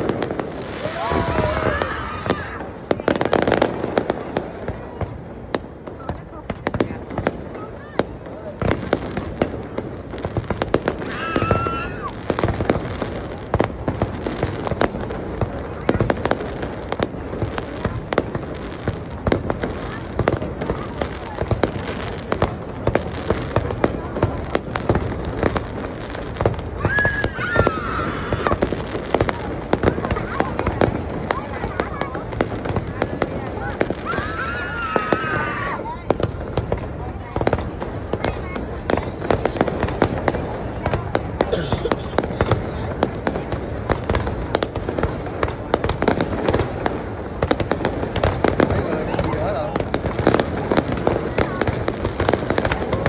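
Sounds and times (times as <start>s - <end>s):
fireworks bangs and pops: 0.0s - 53.0s.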